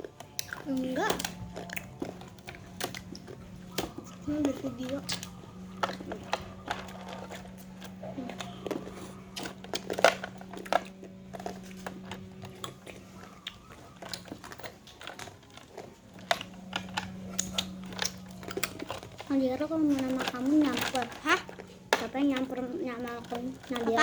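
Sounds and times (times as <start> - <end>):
ice cubes crunched between teeth: 0.0 - 24.0.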